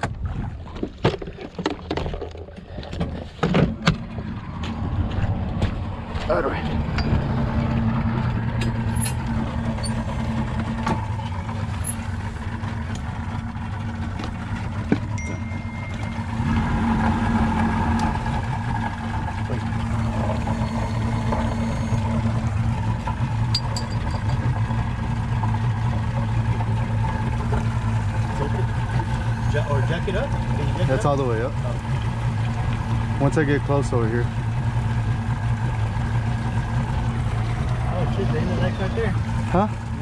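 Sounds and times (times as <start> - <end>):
outboard motor running: 0.0 - 40.0.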